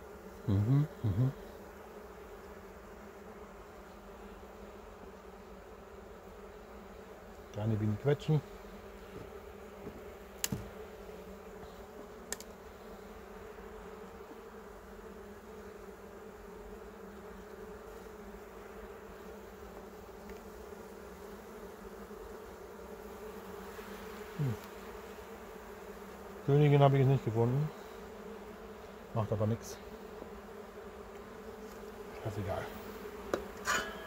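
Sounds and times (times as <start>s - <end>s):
bee buzzing past close: 0.0s - 34.0s
honeybees buzzing: 0.0s - 34.0s.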